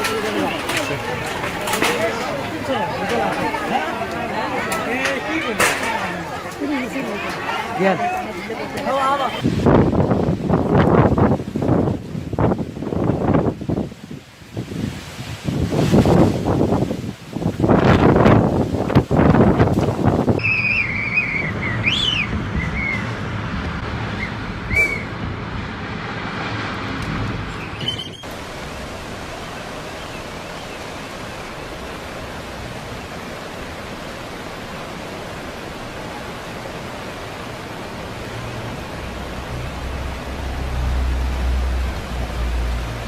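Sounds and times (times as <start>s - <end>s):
rushing water: 0.0s - 43.0s.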